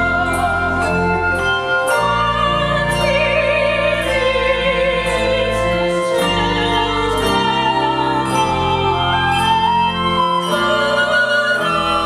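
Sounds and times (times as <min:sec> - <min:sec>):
cello: 0:00.0 - 0:12.0
handbell choir: 0:00.0 - 0:12.0
voices singing with vibrato: 0:00.0 - 0:12.0.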